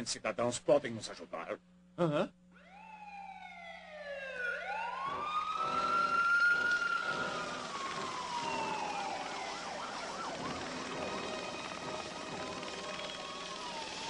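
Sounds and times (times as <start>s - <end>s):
police sirens wailing: 2.6s - 14.0s.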